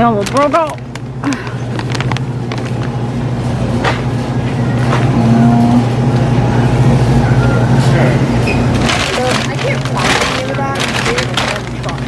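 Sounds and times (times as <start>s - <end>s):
freezer hum: 0.0s - 12.0s.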